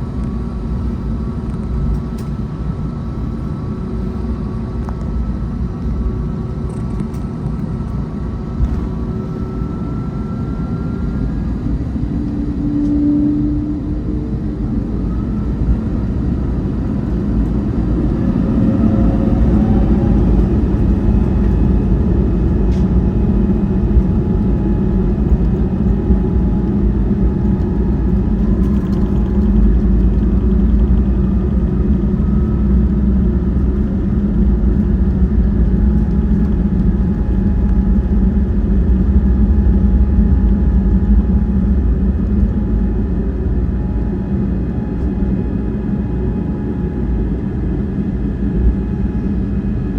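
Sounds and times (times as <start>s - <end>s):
engine whine rising in pitch: 0.0s - 49.9s
jet engine low rumble: 0.0s - 49.9s.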